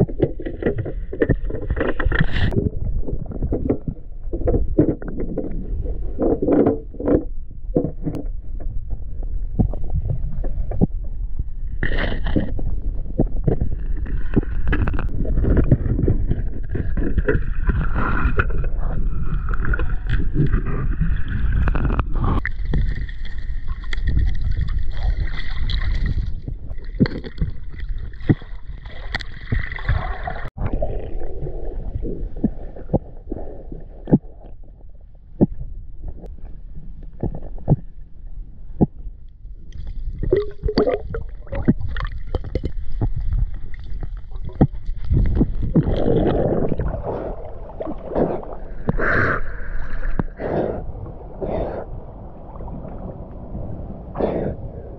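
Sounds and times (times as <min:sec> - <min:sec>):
underwater rumble of moving water: 0:00.0 - 0:54.9.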